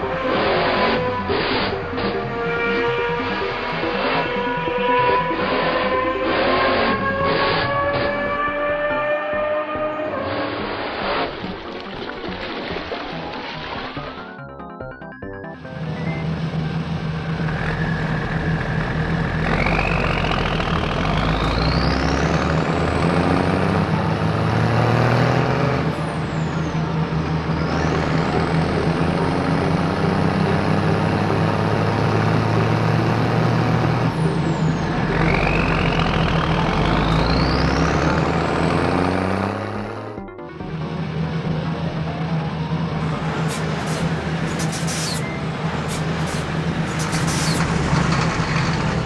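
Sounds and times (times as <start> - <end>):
rising and falling whine: 0.0 - 11.5, 15.6 - 49.0
vehicle engine running: 0.0 - 12.4, 15.6 - 49.0.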